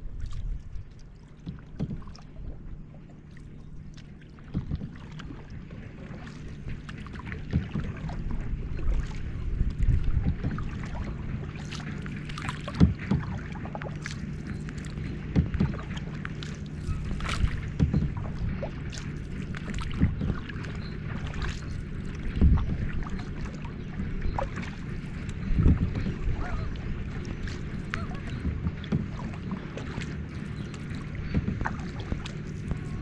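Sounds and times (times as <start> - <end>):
low hum: 0.0 - 33.0
water slapping against boat hull: 0.0 - 33.0.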